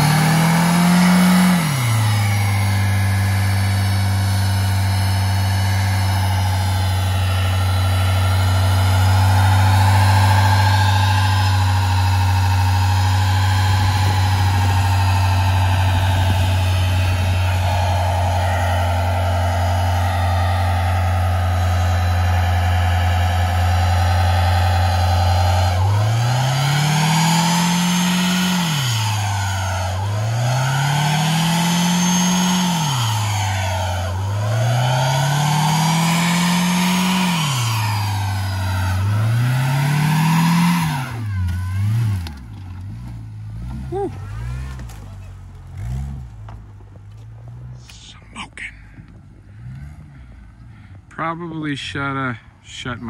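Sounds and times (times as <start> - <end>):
tire scrubbing on wooden board: 0.0 - 48.0
car engine revving at high revs: 0.0 - 48.2.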